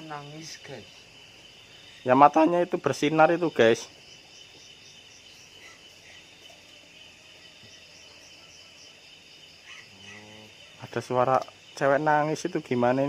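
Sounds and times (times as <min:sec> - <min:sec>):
crickets trilling: 0:00.0 - 0:13.0
pulsing insect chirp: 0:00.0 - 0:13.0.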